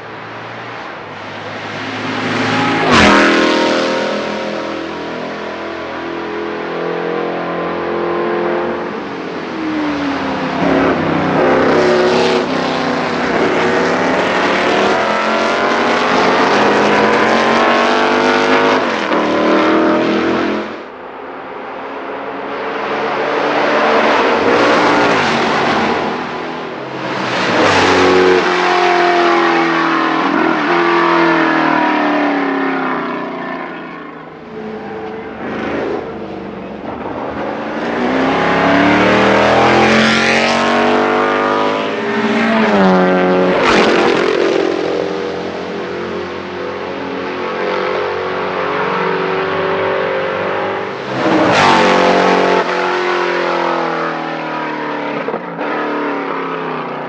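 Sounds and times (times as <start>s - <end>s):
racing cars accelerating past: 0.4s - 20.9s, 22.3s - 57.0s.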